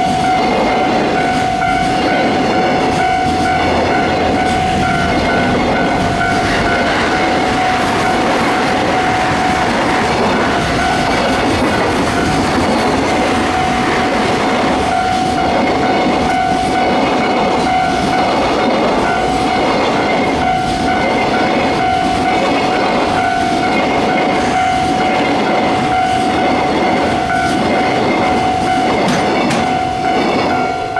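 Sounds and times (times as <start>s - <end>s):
ringing tone from wheels: 0.0s - 30.9s
train rumble: 0.0s - 30.9s
wheels clattering over rail joints: 0.0s - 30.9s.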